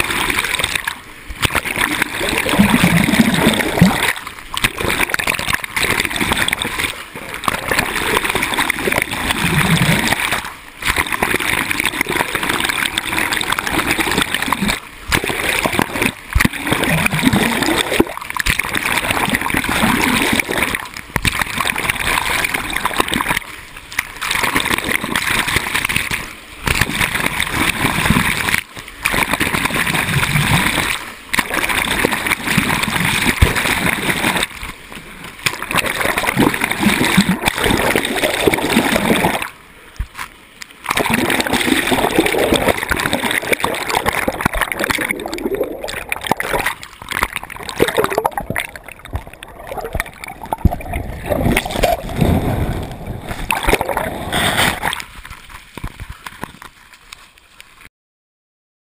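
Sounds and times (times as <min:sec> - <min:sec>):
shallow water splashing: 0:00.0 - 0:57.9.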